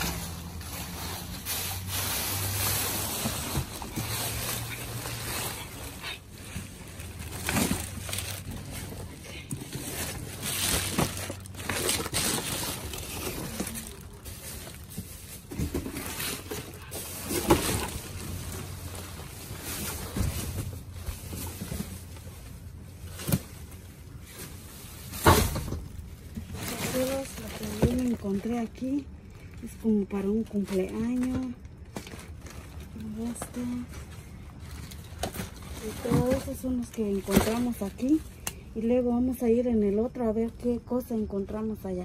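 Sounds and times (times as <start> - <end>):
plastic and foil crinkling: 0.0 - 38.7
low steady hum: 0.0 - 42.0.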